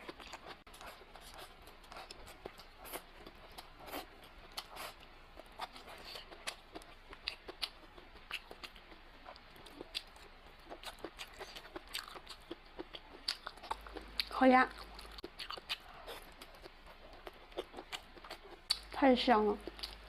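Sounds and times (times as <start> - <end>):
eating crunches and smacks: 0.0 - 19.0, 19.6 - 20.0.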